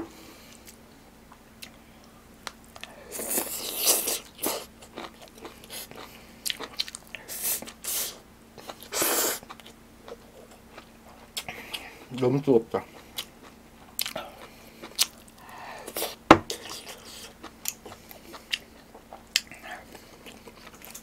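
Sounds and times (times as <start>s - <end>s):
person chewing food: 0.5s - 21.0s.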